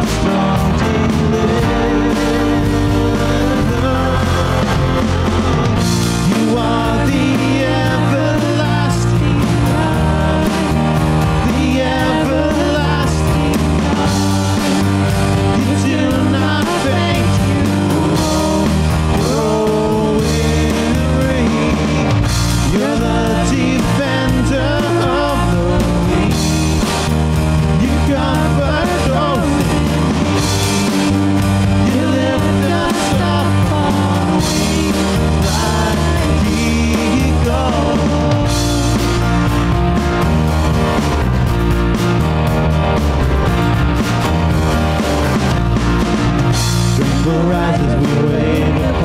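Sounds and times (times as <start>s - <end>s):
person singing: 0.0s - 40.2s, 47.0s - 49.0s
rock band playing: 0.0s - 49.0s.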